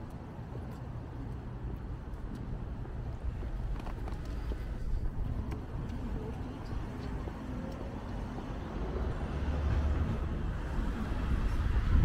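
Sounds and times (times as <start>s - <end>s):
traffic going by: 0.0s - 12.0s
faint voices of passers-by: 0.1s - 12.0s.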